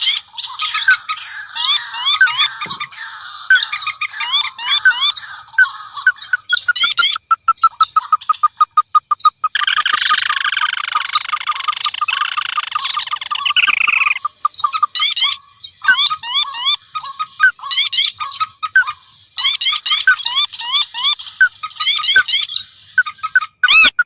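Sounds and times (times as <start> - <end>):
dense bird chorus: 0.0 - 24.0
rapid repeated bird notes: 0.0 - 24.0.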